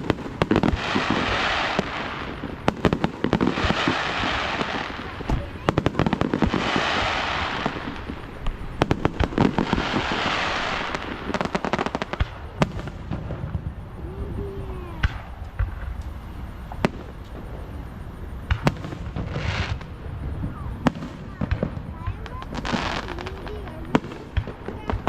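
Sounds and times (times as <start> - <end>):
fireworks bangs: 0.0 - 25.0
fireworks crackling pops: 0.0 - 25.0.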